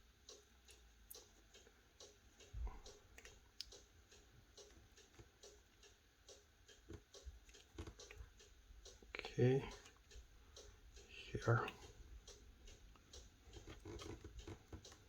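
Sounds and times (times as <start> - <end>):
faint ticking clicks: 0.0 - 15.0.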